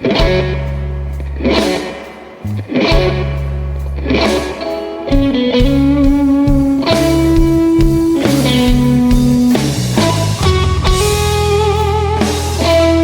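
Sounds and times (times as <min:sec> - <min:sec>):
bass guitar: 0:00.0 - 0:13.0
drums: 0:00.0 - 0:13.0
electric guitar long held notes: 0:00.0 - 0:13.0.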